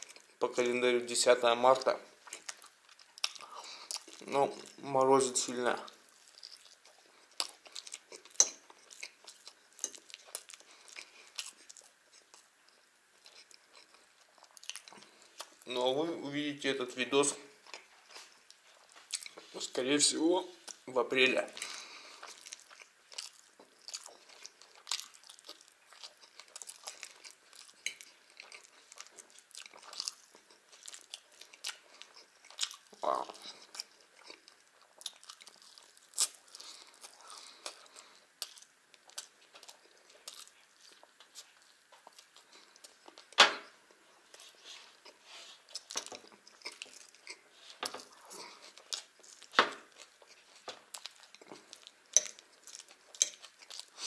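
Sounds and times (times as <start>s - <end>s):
chewing and biting food: 2.2s - 4.8s, 5.8s - 15.7s, 21.6s - 43.4s, 44.3s - 54.0s.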